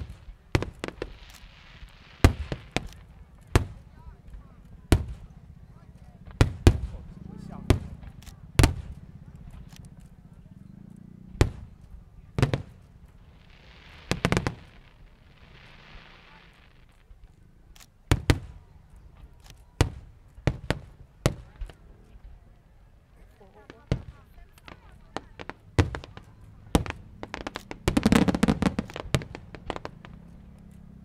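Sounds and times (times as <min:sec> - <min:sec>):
fireworks bangs: 0:00.0 - 0:10.6, 0:11.2 - 0:17.3, 0:18.0 - 0:22.4, 0:23.2 - 0:31.0
fireworks crackling: 0:00.0 - 0:31.0.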